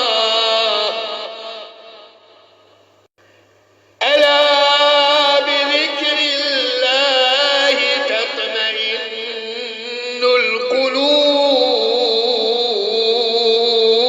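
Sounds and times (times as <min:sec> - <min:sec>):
man chanting melodically: 0:00.0 - 0:02.7, 0:04.0 - 0:14.0.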